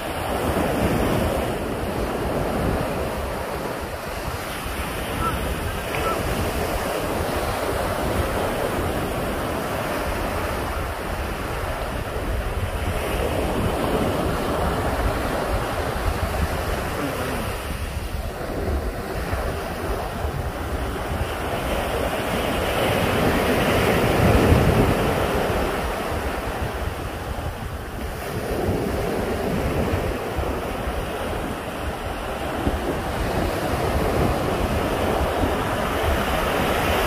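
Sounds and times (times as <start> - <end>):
surf washing onto beach: 0.0 - 37.0
wind rumbling on microphone: 0.0 - 37.0.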